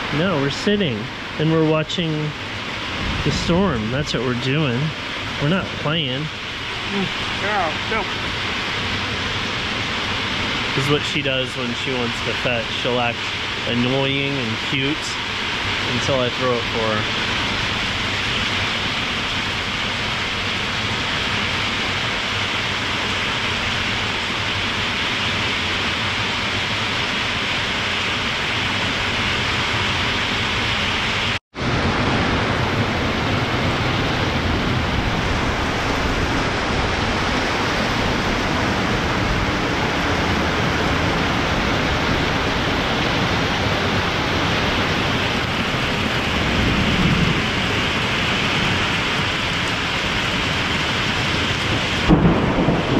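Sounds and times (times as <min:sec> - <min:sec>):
heavy rain pouring on a roof: 0:00.0 - 0:52.9
low rumble: 0:00.0 - 0:52.9.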